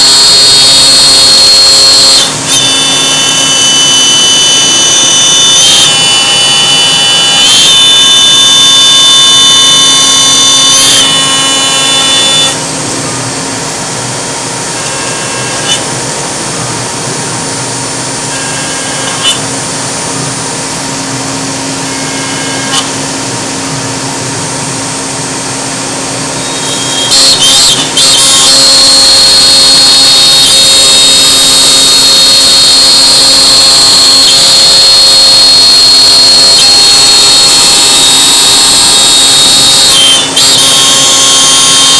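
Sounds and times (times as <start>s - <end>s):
router spindle high-pitched whine: 0.0s - 41.9s.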